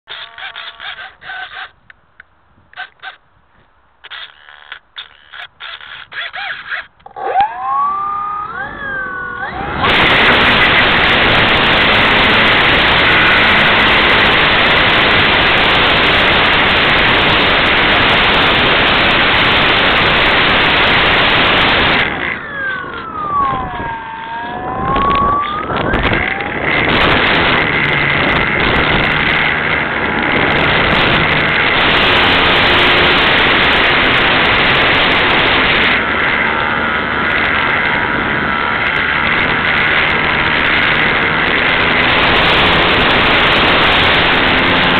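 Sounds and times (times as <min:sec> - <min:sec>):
model plane electric motor whine: 0:00.1 - 0:01.7, 0:04.1 - 0:44.9
wind buffeting microphone: 0:07.8 - 0:44.9.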